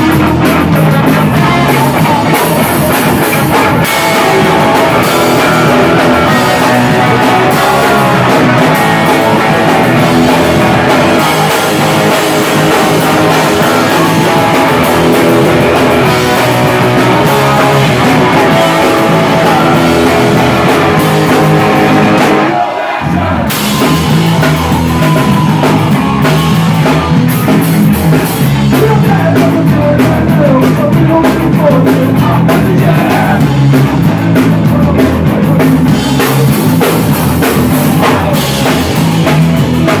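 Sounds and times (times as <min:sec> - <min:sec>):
person singing: 0:00.0 - 0:27.6, 0:28.2 - 0:40.0
drum kit: 0:00.0 - 0:40.0
electric guitar: 0:00.0 - 0:40.0.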